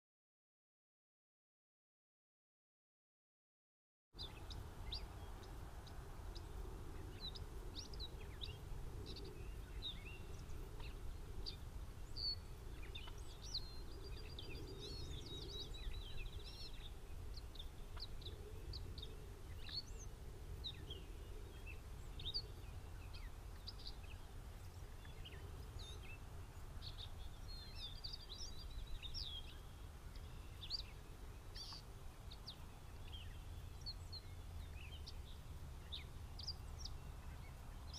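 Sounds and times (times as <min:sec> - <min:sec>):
songbirds chirping: 0:04.2 - 0:37.9
steady low rumble: 0:04.2 - 0:37.9.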